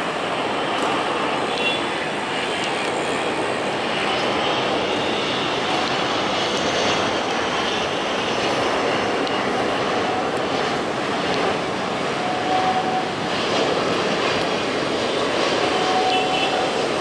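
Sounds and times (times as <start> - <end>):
jet engines rushing noise: 0.0 - 17.0.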